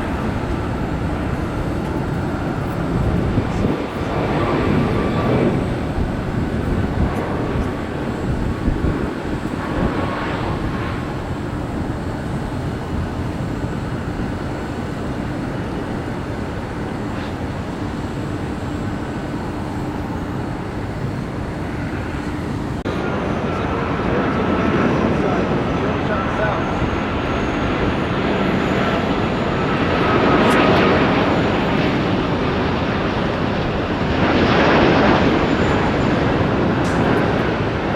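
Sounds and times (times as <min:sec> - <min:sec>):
jet airliner engine rumble: 0:00.0 - 0:37.9.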